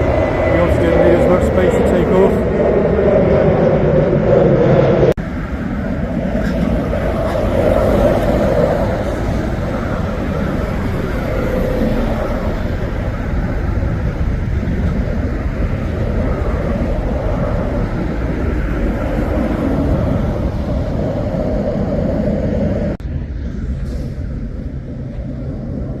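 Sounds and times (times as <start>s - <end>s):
jet engines of departing airliner: 0.0s - 26.0s.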